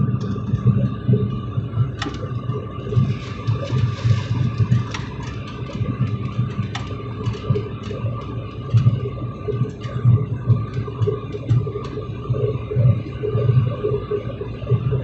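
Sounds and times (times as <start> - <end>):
thin steady whine: 0.0 - 15.0.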